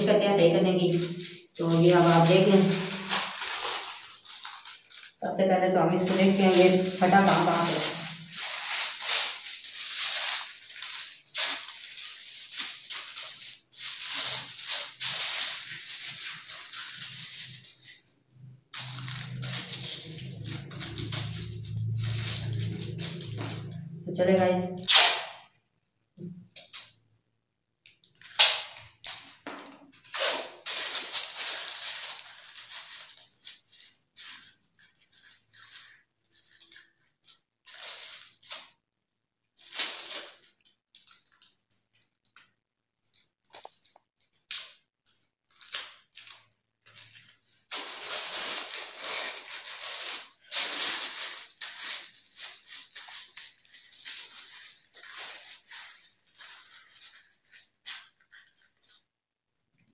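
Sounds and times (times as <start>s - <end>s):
kite covering rustling and crinkling: 0.0s - 23.9s, 29.2s - 38.8s, 39.6s - 42.0s, 45.5s - 59.1s.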